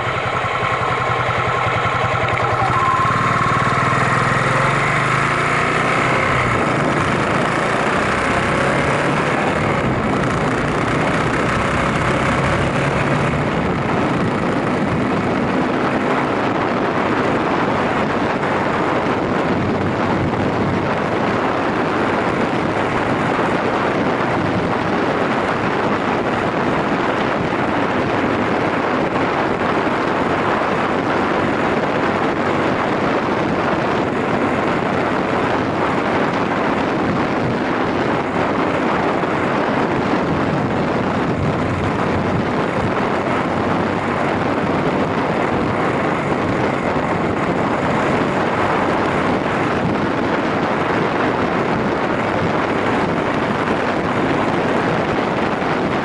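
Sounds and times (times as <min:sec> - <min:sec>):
motorcycle engine and road noise: 0:00.0 - 0:56.0
wind rushing over microphone: 0:00.0 - 0:56.0.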